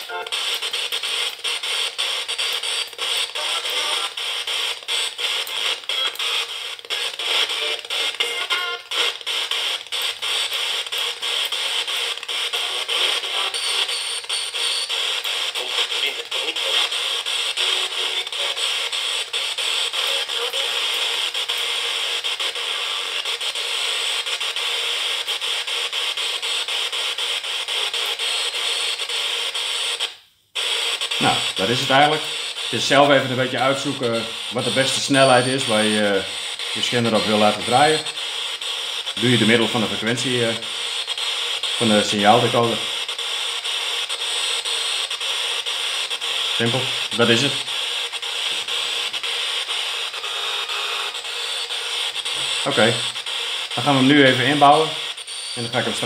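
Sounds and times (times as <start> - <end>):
chopped radio static: 0.0 - 56.0
snatches of broadcast music: 0.0 - 56.0
snatches of radio voices: 0.0 - 56.0.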